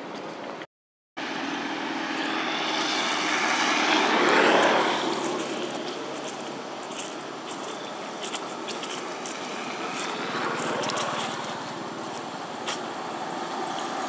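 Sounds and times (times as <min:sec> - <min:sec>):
passing engine droning: 0:01.2 - 0:14.0.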